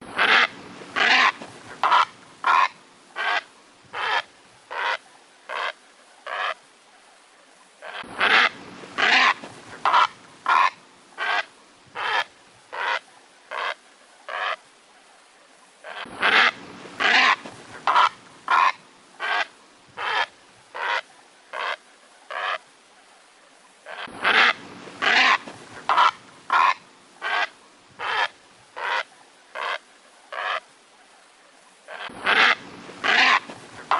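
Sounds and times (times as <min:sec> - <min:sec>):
heron calling: 0:00.1 - 0:06.6, 0:07.8 - 0:14.6, 0:15.8 - 0:22.6, 0:23.9 - 0:30.6, 0:31.9 - 0:33.9.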